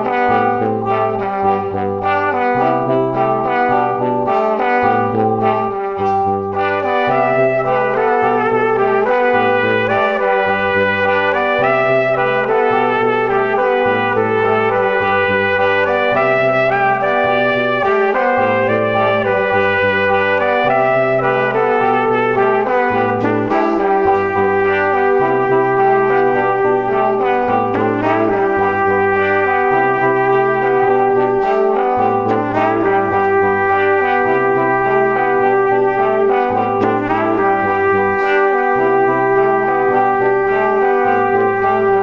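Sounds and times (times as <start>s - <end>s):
brass quartet playing slow chords: 0.0s - 42.0s.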